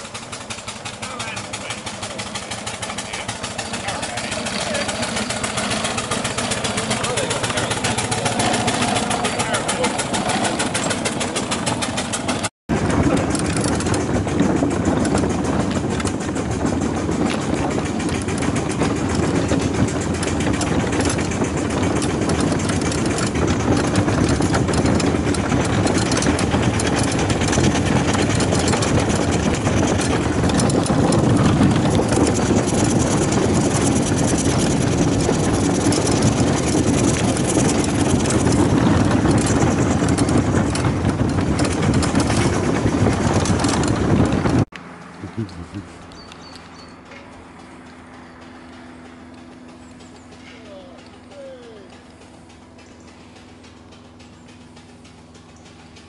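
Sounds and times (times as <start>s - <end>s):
iron wheels rolling on tarmac: 0.0s - 56.0s
steam engine exhaust beats: 0.0s - 56.0s.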